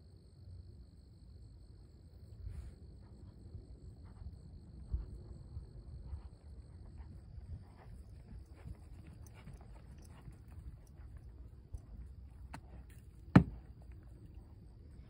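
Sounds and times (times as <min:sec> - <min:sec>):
horse hooves trotting on sand: 0:02.9 - 0:15.0.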